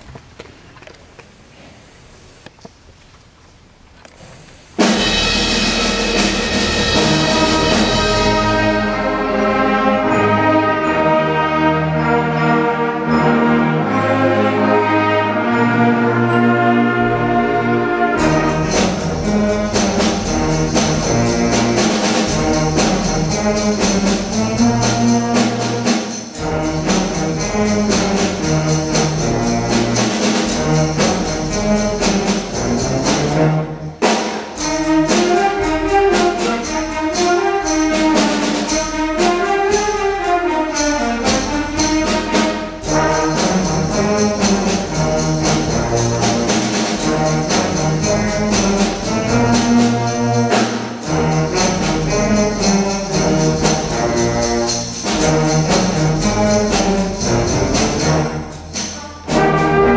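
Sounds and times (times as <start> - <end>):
concert band brass and woodwinds: 4.8 - 59.9
percussion steady beat: 4.8 - 59.9.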